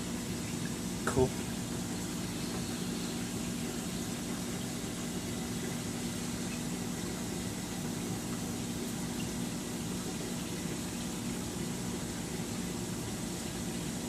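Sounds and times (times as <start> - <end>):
aquarium pump hum: 0.0 - 14.0
rushing water: 0.0 - 14.0.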